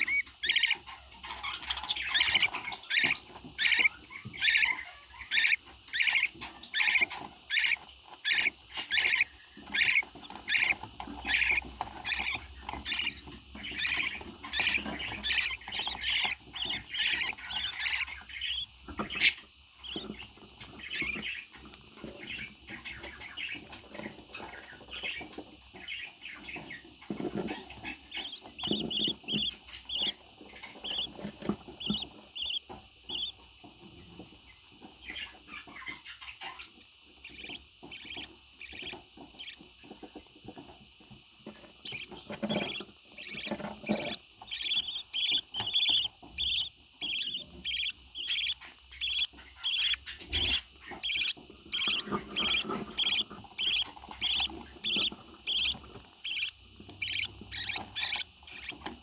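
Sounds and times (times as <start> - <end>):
parrot calling: 0.0 - 20.2, 27.4 - 33.4, 35.0 - 39.6, 41.8 - 58.9.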